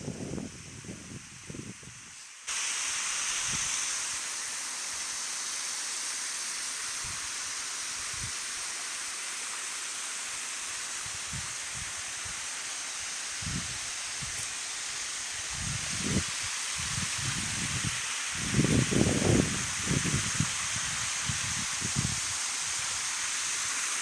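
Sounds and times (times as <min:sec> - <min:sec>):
waterfall rushing: 0:02.5 - 0:24.0.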